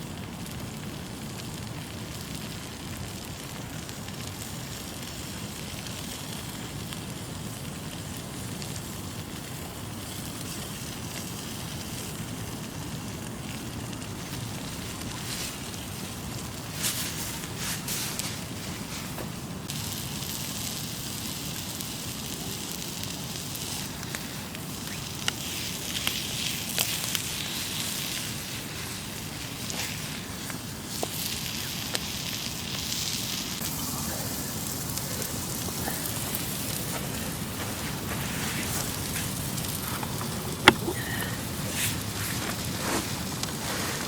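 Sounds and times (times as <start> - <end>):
campfire crackling: 0.0 - 44.0
fire popping: 0.0 - 44.0.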